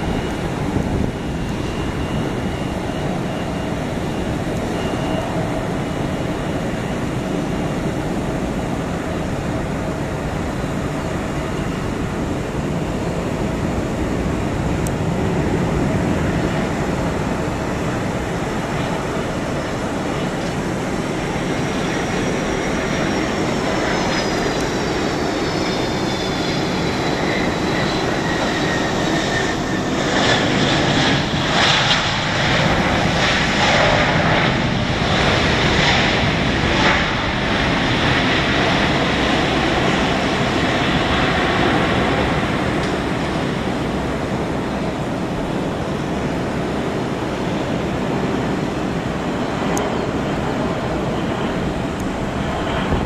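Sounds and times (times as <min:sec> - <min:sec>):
high jet whine falling in pitch: 0:00.0 - 0:53.0
jet engines roaring: 0:00.0 - 0:53.0.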